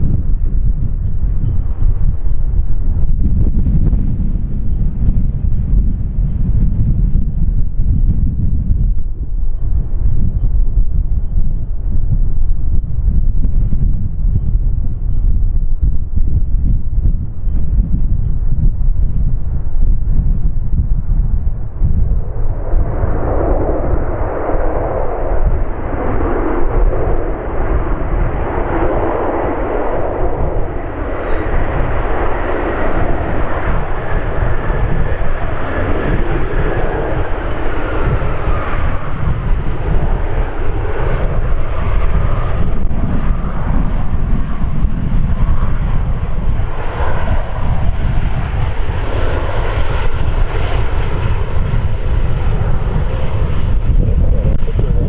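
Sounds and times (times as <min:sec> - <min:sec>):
airliner engines: 0:00.0 - 0:55.0
wind buffeting microphone: 0:00.0 - 0:55.0.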